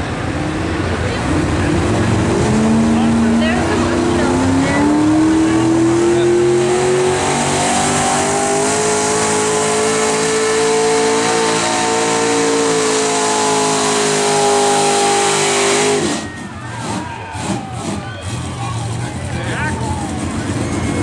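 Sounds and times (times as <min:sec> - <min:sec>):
truck engine at full throttle: 0:00.0 - 0:21.0.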